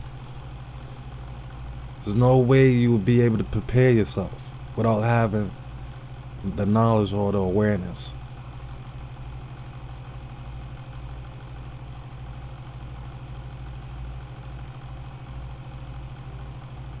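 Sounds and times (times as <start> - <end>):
machine humming with regular throb: 0.0 - 17.0.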